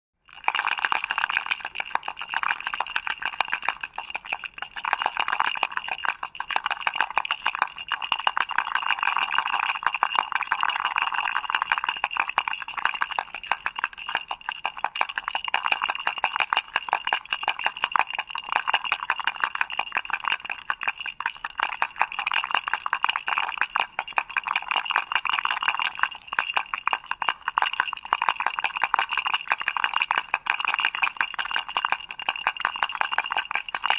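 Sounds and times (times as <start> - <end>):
toy rattle shaken: 0.3 - 33.9.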